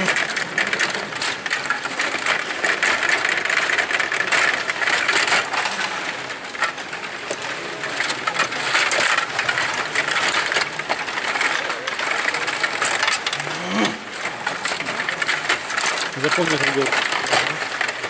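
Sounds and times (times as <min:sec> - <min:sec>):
clatter of metal control rods: 0:00.0 - 0:18.0
plastic players knocking puck: 0:00.0 - 0:18.0.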